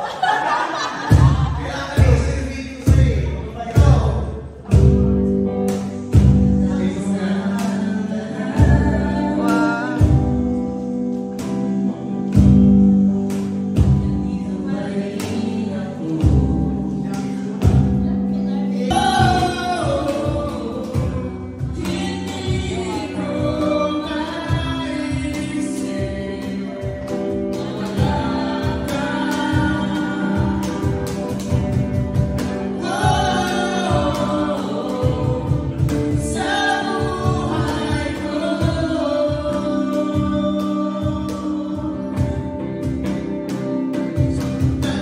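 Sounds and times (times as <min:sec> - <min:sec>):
electric guitar: 0:00.0 - 0:45.0
man and woman singing: 0:00.0 - 0:45.0.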